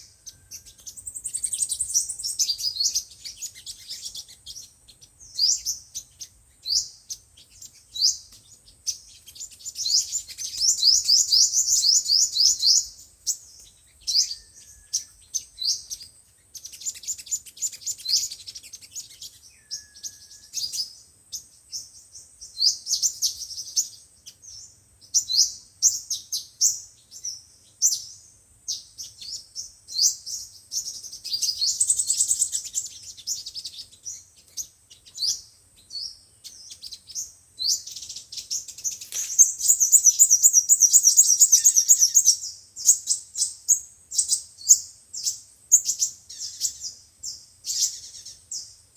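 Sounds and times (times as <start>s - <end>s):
birds chirping and trilling: 0.0s - 48.9s.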